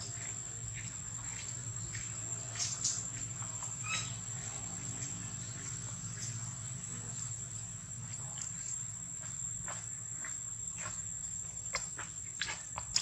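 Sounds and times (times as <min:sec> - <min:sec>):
insect chirps: 0:00.0 - 0:13.0
insects droning: 0:00.0 - 0:13.0.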